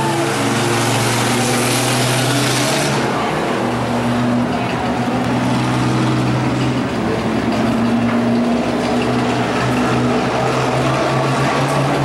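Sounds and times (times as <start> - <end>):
racing truck engines droning: 0.0 - 12.0.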